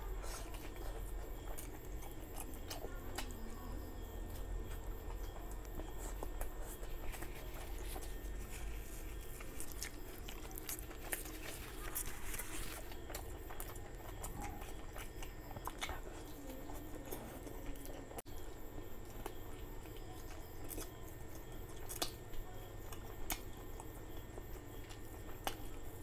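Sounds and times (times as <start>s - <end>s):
man chewing food: 0.0s - 26.0s.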